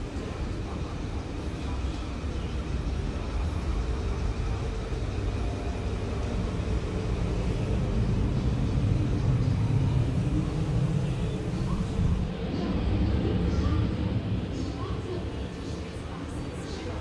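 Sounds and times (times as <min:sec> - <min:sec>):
road traffic rumble: 0:02.0 - 0:16.9.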